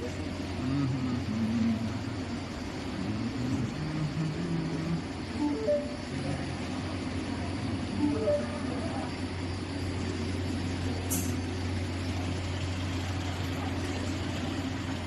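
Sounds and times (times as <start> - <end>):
machine conveyor humming: 0.0 - 15.0.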